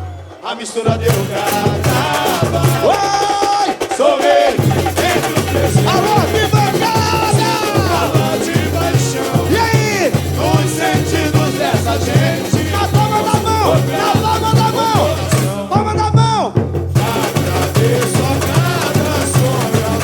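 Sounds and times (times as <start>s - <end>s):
samba drum band playing: 0.0s - 20.0s
low surdo drums beating: 0.9s - 20.0s.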